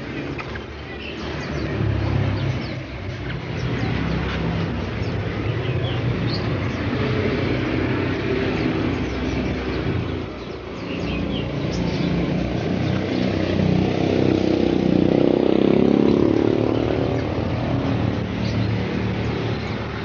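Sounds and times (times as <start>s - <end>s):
steady traffic noise: 0.0s - 20.0s
vehicle passing: 0.0s - 20.0s.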